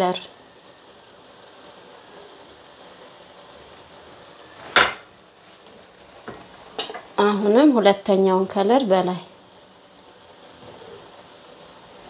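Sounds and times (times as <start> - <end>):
pot sizzling on a gas burner: 0.0 - 12.0.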